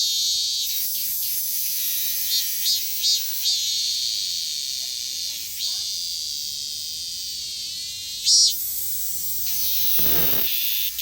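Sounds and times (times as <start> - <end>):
cicada buzzing: 0.0 - 11.0.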